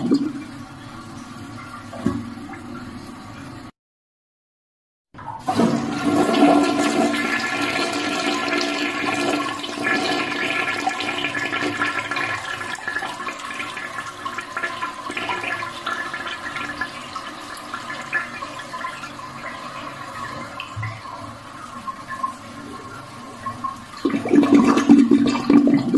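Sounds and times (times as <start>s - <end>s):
toilet flushing: 0.0s - 3.7s, 5.2s - 25.9s.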